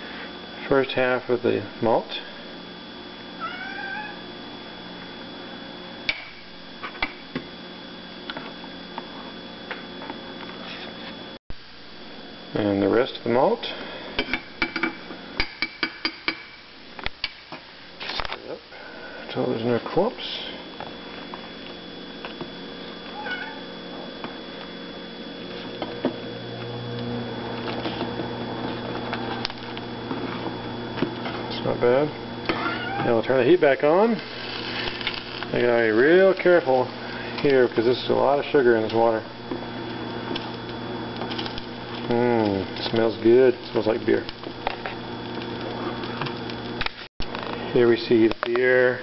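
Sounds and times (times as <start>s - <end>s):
faint room hum: 0.0s - 49.0s.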